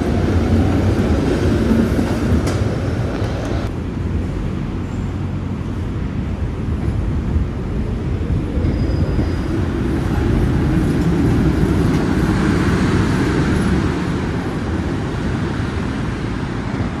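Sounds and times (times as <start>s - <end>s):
rail vehicle rumbling: 0.0s - 17.0s.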